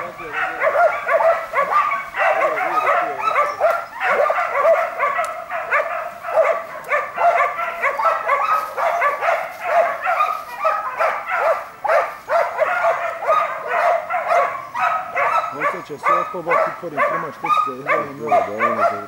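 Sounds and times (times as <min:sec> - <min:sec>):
hunting dog barking rapidly: 0:00.0 - 0:19.0.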